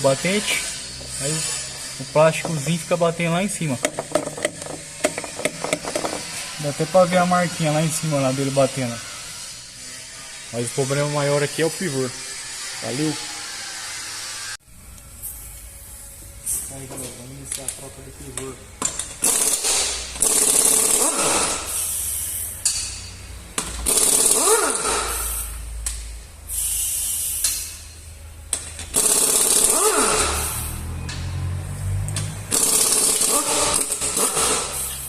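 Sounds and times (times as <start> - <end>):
pneumatic impact wrench whine: 0.0 - 17.1, 18.8 - 31.5, 32.5 - 35.0.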